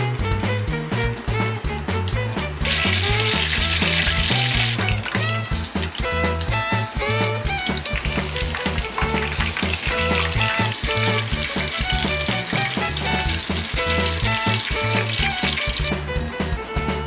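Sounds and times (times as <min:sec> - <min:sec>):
food deep-frying in oil: 0:00.0 - 0:15.9
background music with bass line: 0:00.0 - 0:17.0.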